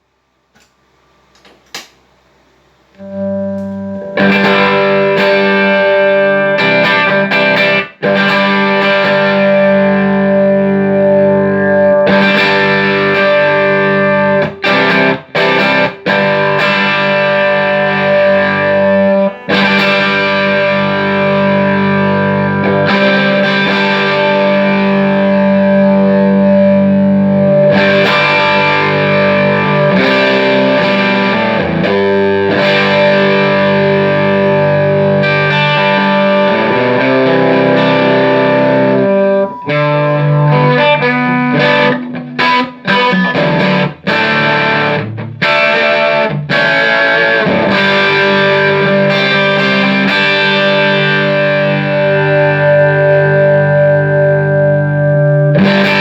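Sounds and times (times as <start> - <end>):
distorted electric guitar chords: 2.9 - 56.0.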